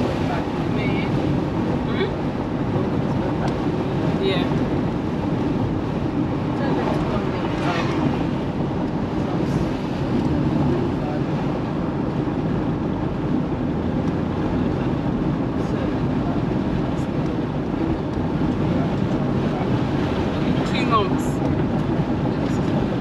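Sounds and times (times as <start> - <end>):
car engine and road noise: 0.0 - 23.0
wind noise: 0.0 - 23.0.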